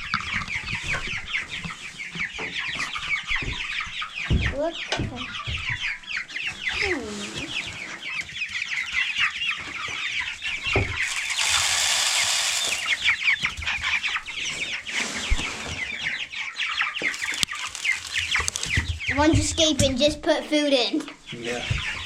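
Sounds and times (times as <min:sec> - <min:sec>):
chicks peeping: 0:00.0 - 0:20.2, 0:21.0 - 0:22.0.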